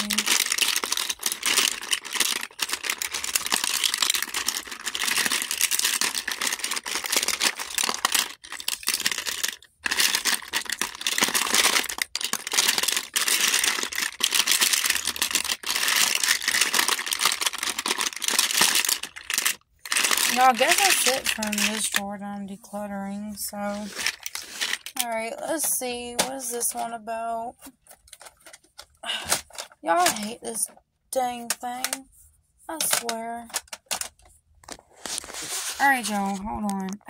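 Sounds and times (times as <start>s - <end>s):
plastic tubes clattering in drawer: 0.0s - 22.1s, 23.7s - 27.0s, 27.6s - 30.7s, 32.7s - 37.0s.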